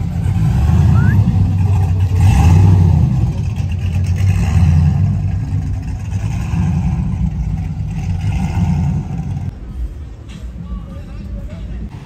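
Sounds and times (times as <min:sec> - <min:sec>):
engine exhaust rumble: 0:00.0 - 0:12.0.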